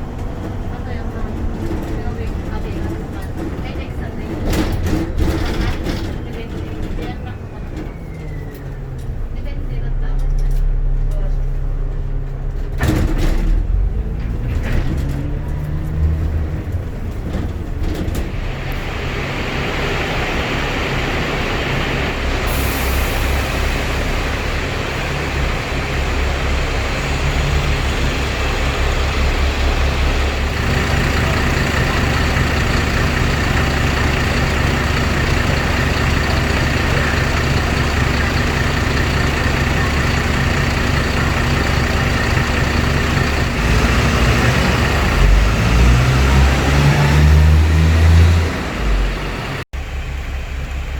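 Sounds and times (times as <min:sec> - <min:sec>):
bus engine pulling away: 0:00.0 - 0:50.9
road and air noise: 0:00.0 - 0:50.9.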